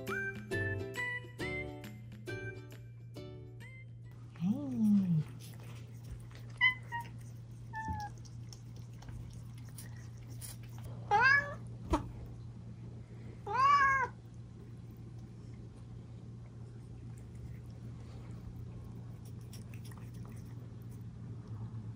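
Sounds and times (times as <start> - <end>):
low hum: 2.0 - 21.9.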